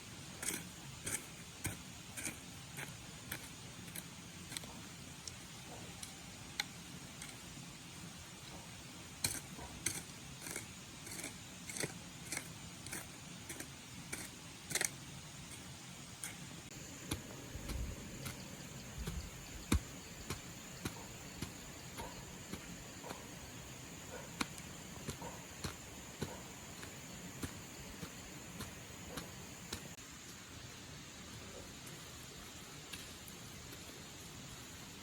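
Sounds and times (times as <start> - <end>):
quiet steady hiss: 0.0 - 35.0.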